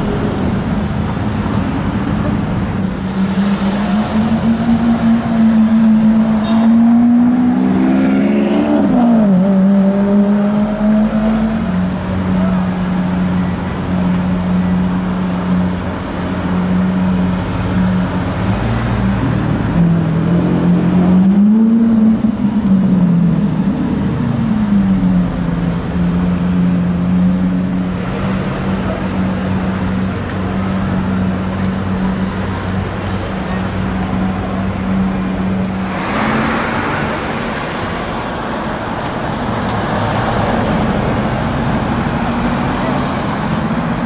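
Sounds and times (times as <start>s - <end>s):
city traffic: 0.0s - 44.0s.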